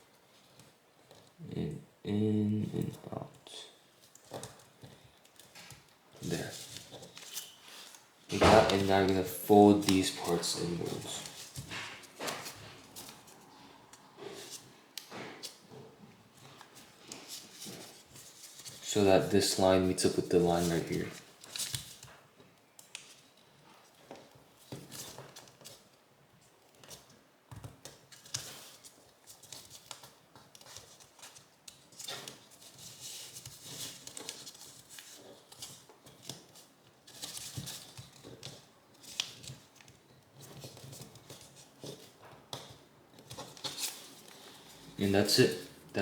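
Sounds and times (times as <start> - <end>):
paper rustling and crinkling: 4.0 - 13.7, 16.3 - 22.3, 22.9 - 45.8.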